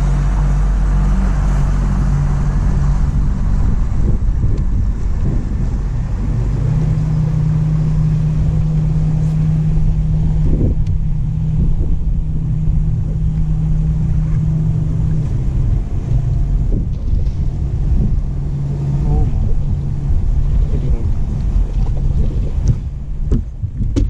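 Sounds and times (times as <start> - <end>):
steady motor hum: 0.0 - 24.0
wind rumbling on microphone: 0.0 - 24.0.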